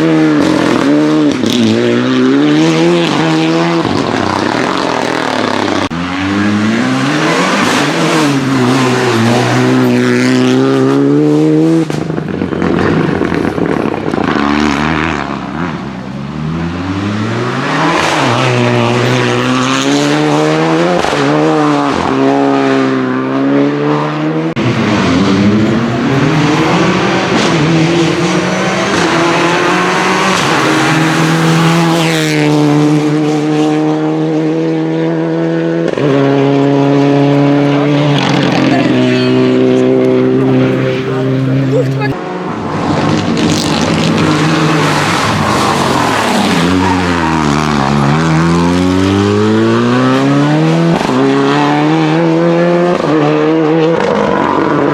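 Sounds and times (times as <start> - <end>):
rally car engine revving: 0.0 - 54.9.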